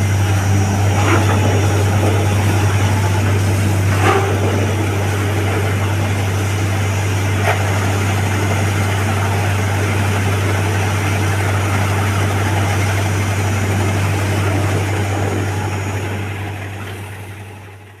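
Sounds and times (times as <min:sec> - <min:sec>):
drilling rig engine drone: 0:00.0 - 0:18.0.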